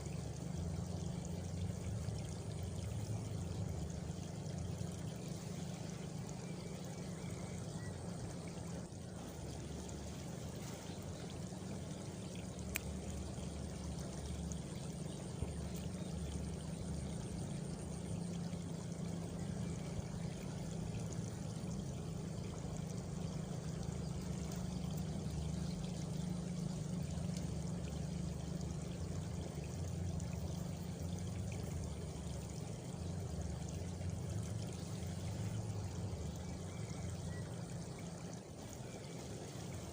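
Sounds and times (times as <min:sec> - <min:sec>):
faint cricket trill: 0:00.0 - 0:39.9
running water rushing: 0:00.0 - 0:39.9.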